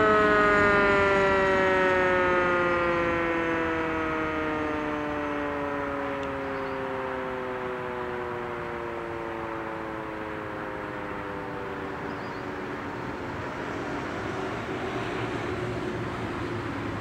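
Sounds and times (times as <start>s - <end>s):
steady background noise: 0.0s - 17.0s
warning siren winding down: 0.0s - 17.0s.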